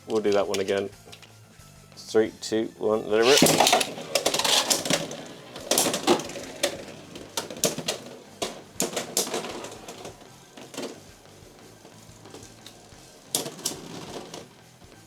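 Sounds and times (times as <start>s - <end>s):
spinning tops clacking together: 0.0s - 1.4s, 3.2s - 15.0s.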